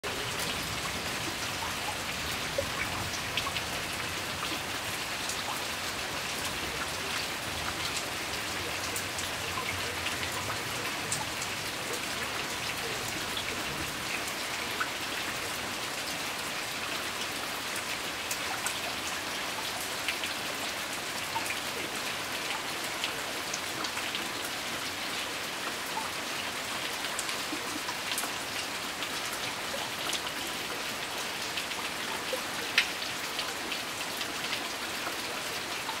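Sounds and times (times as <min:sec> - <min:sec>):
rain on foliage: 0:00.0 - 0:36.0.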